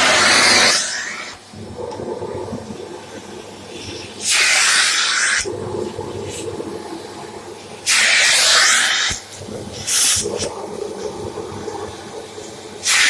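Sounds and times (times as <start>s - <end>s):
vacuum cleaner suction hiss: 0.0s - 1.6s, 2.8s - 10.7s, 11.4s - 13.0s.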